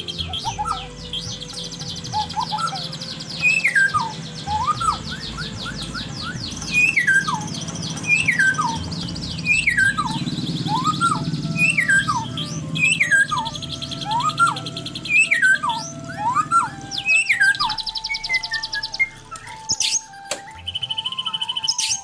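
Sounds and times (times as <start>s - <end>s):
songbird whistling: 0.0s - 22.0s.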